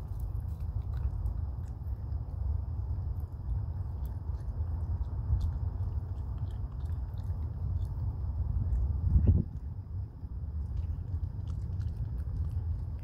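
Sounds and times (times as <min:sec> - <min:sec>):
low rumble: 0:00.0 - 0:13.0
raccoon chewing dry food: 0:00.0 - 0:13.0.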